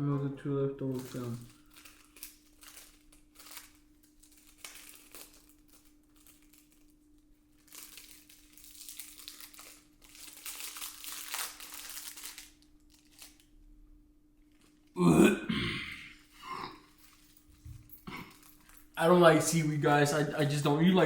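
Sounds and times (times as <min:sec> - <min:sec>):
plastic wrapper crinkling: 0:00.8 - 0:13.7, 0:14.4 - 0:15.0, 0:16.9 - 0:20.6.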